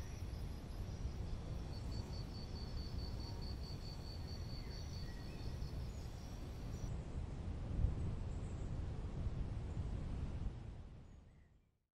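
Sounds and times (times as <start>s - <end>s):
forest ambience low rumble: 0.0s - 11.8s.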